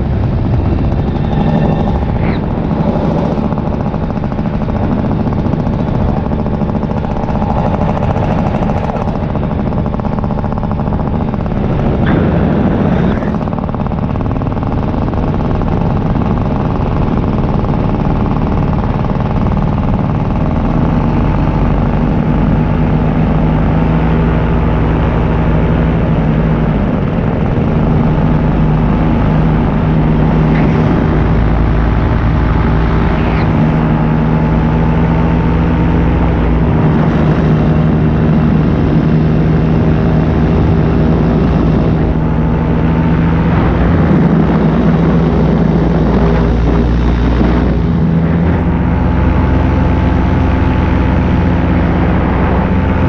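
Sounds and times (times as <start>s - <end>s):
paramotor engine droning: 0.0s - 53.0s.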